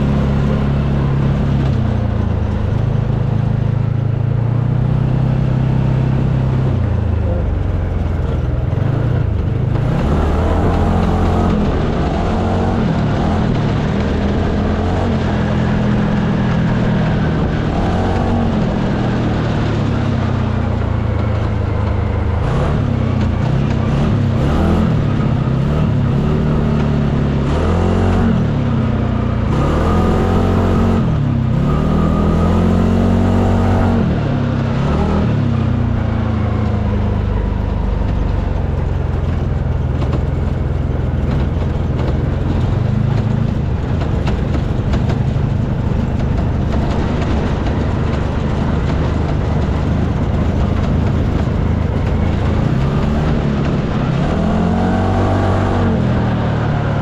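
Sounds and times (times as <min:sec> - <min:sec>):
steady rush of noise: 0:00.0 - 0:57.0
utility vehicle engine revving: 0:00.0 - 0:57.0.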